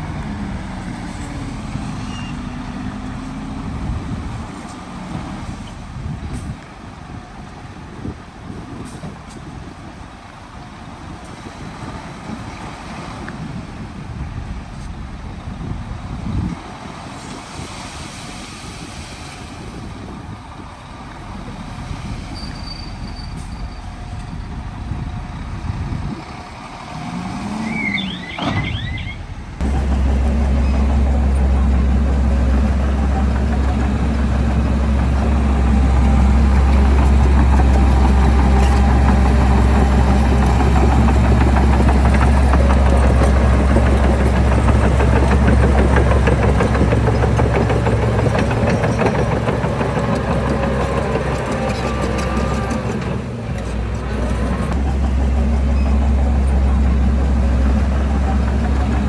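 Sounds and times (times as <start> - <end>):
diesel construction machinery running: 0.0 - 59.0.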